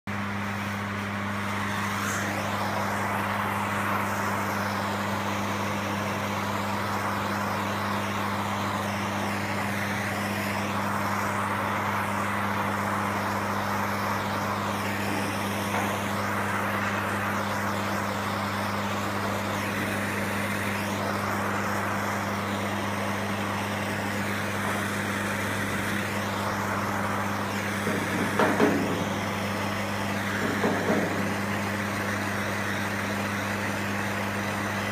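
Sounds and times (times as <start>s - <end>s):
electrical hum: 0.1s - 34.9s
torch flame hissing: 0.4s - 34.9s.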